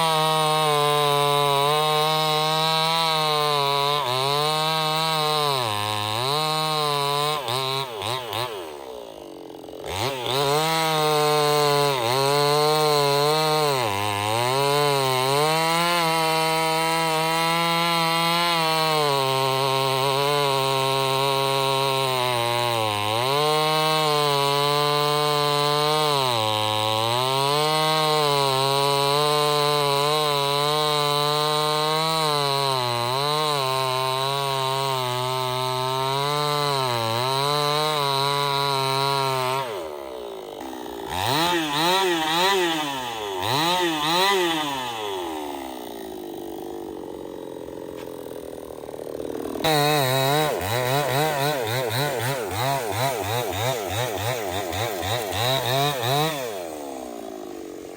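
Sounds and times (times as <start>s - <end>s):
chainsaw revving: 0.0s - 57.9s.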